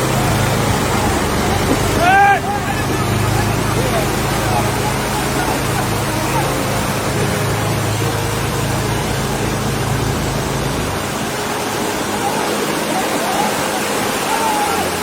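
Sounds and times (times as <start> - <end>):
boat motor humming: 0.0 - 15.0
water rushing: 0.0 - 15.0.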